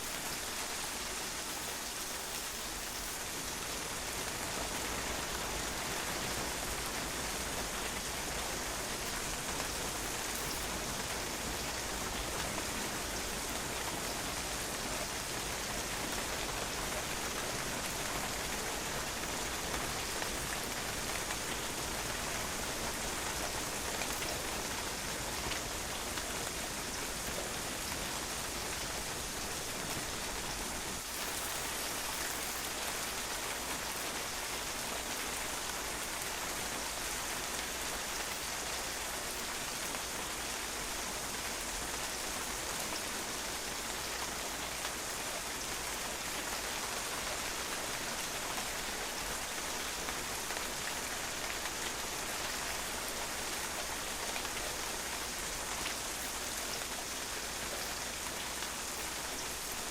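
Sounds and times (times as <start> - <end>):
rain splashing on a patio: 0.0 - 59.9.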